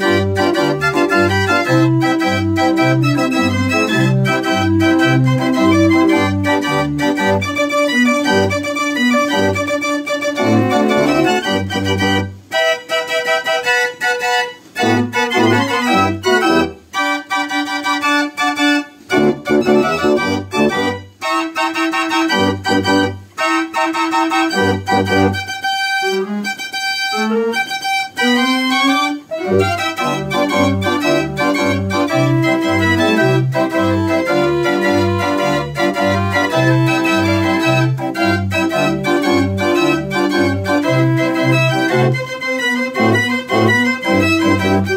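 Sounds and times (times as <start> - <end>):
mechanical pipe organ playing: 0.0 - 25.4, 27.6 - 44.9.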